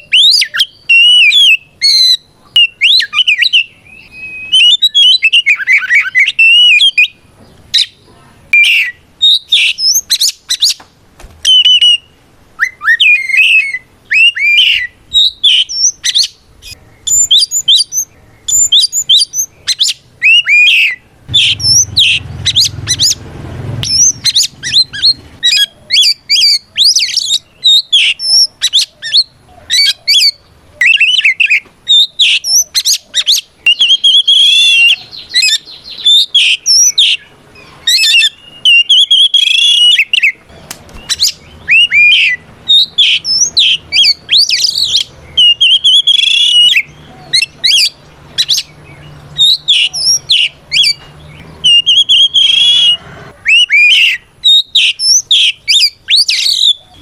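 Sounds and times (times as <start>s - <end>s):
magpie-robin singing: 0.0s - 10.8s, 11.4s - 57.0s.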